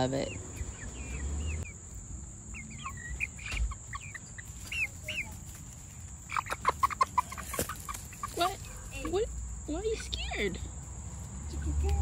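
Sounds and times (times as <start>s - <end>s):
chickens clucking in alarm: 0.0s - 10.8s
chicks chirping: 0.0s - 12.0s.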